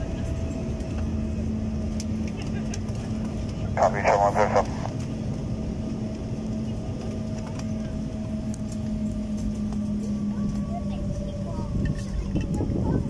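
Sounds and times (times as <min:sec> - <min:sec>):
airliner cabin rumble: 0:00.0 - 0:13.0
constant hum: 0:00.0 - 0:13.0.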